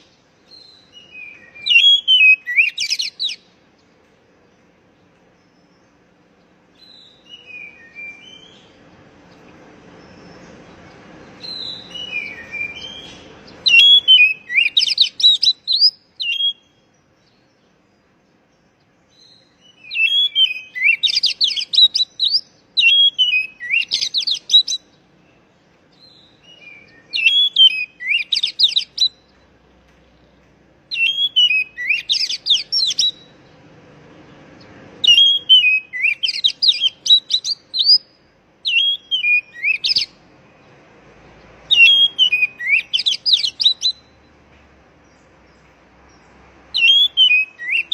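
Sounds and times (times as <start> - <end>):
soft bird calls: 0.0 - 47.9
songbird chirps and trills: 0.0 - 47.9.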